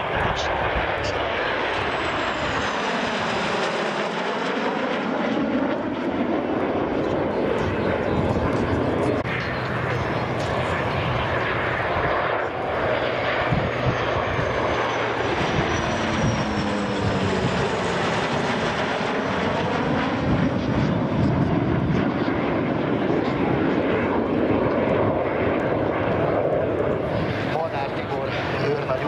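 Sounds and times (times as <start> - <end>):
aircraft engine noise: 0.0 - 29.0.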